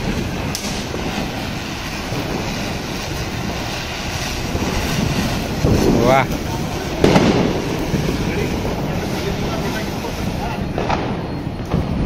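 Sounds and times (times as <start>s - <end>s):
firework crackle: 0.0s - 12.0s
firework spinner hissing: 0.0s - 12.0s.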